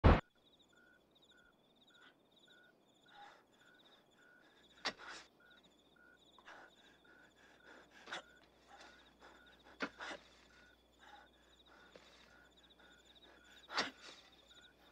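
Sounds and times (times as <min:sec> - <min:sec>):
crickets chirping: 0:00.2 - 0:14.9.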